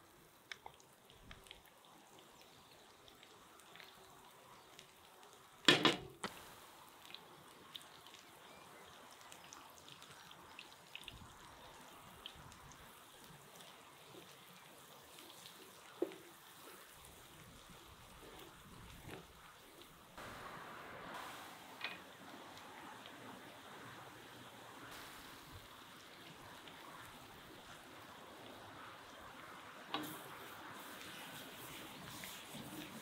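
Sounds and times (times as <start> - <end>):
garlic sizzling in oil: 0.3 - 33.0.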